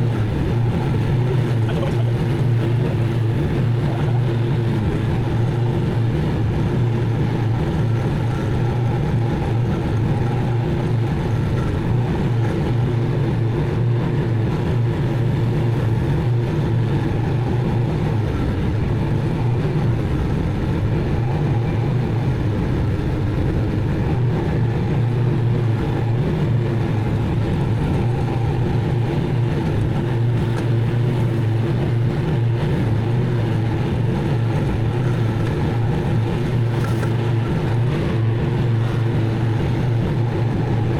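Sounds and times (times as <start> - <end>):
mower engine running: 0.0 - 40.9.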